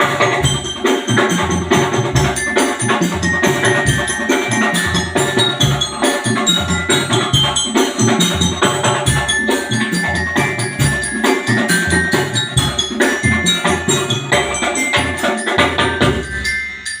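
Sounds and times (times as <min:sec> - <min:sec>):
drums beating quick rhythm: 0:00.0 - 0:17.0
mallet bells melody: 0:00.0 - 0:17.0.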